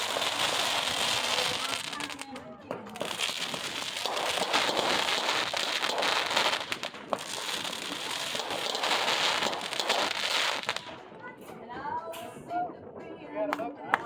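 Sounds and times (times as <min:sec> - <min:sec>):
fireworks crackling: 0:00.0 - 0:12.6.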